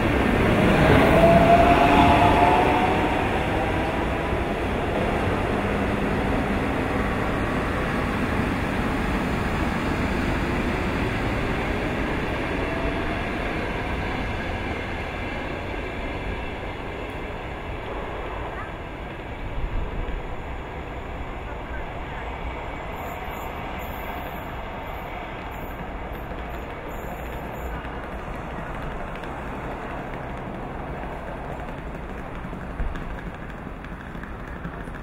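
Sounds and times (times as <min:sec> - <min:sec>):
electric train running on rails: 0:00.0 - 0:35.0.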